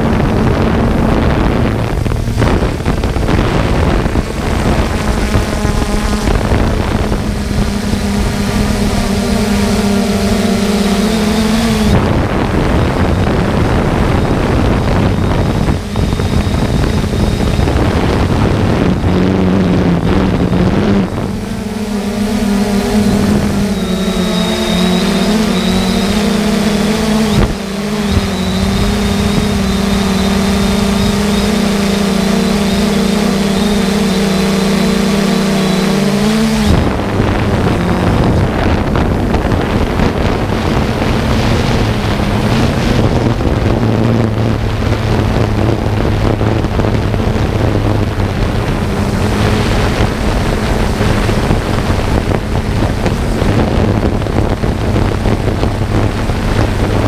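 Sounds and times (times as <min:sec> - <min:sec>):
aircraft motor humming: 0:00.0 - 0:57.0
wind on microphone: 0:00.0 - 0:57.0.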